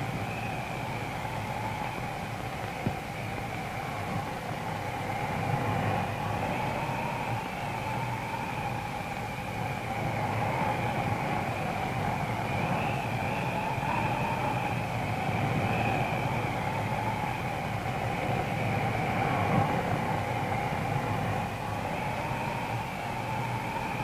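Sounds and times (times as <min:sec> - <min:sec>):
faint wavering drone: 0:00.0 - 0:24.0
film soundtrack hiss and hum: 0:00.0 - 0:24.0.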